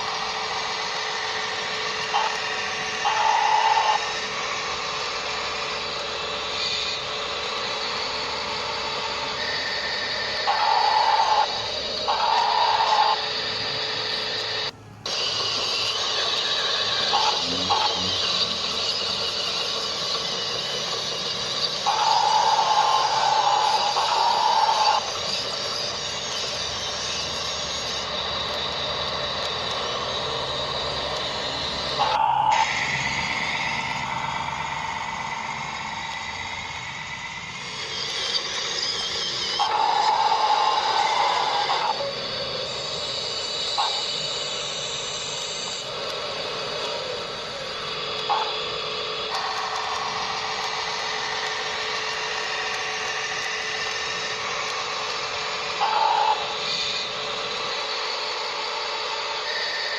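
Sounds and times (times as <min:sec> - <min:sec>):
mechanical running noise: 0:00.0 - 0:59.9
thin high whine: 0:00.0 - 0:59.9.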